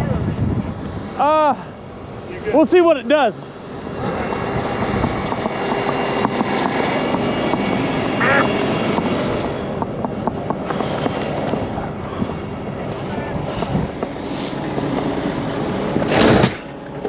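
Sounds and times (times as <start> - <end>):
truck diesel engines running: 0.0 - 17.0.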